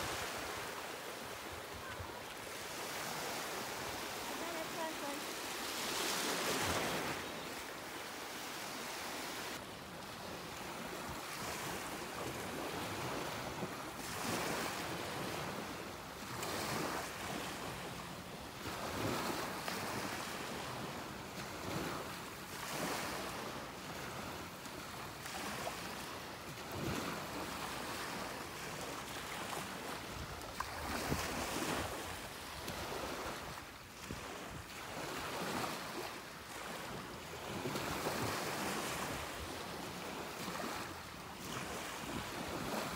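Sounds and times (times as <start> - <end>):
small waves washing on beach: 0.0 - 42.9.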